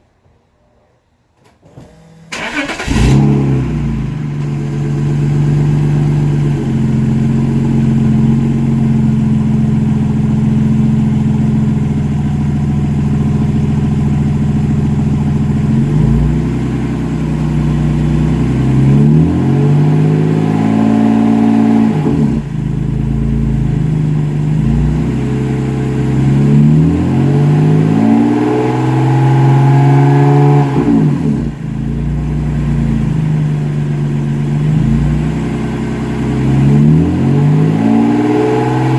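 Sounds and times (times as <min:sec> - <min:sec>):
car engine revving: 0:01.9 - 0:38.9.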